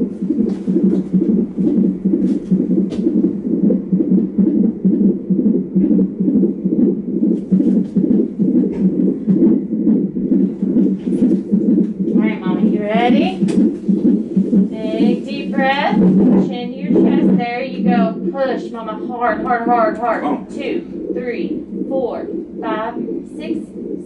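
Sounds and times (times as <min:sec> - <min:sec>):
doppler heartbeat whooshing: 0:00.0 - 0:24.0.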